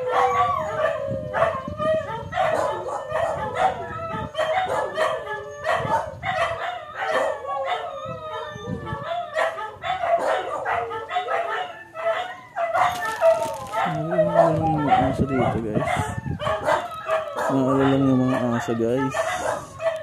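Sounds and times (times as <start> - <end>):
dogs barking: 0.0 - 20.0
dogs howling: 0.0 - 20.0.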